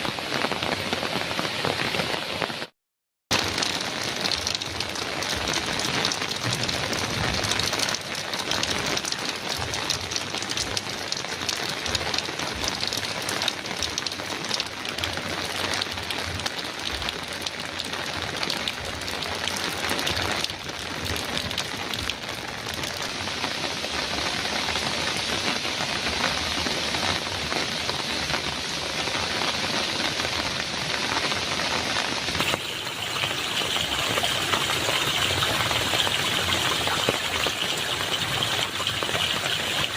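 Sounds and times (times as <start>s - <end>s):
heavy rain on a metal roof: 0.0s - 2.7s, 3.3s - 39.9s.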